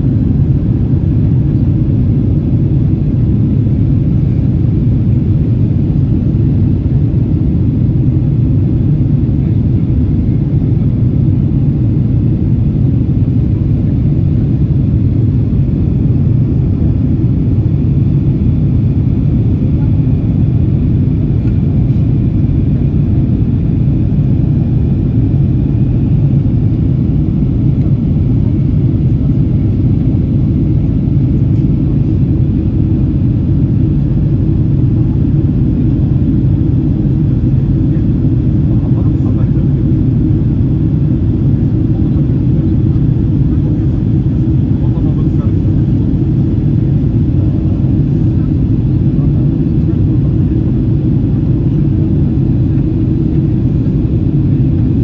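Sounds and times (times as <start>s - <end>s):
airliner engines roaring in cabin: 0.0s - 55.0s.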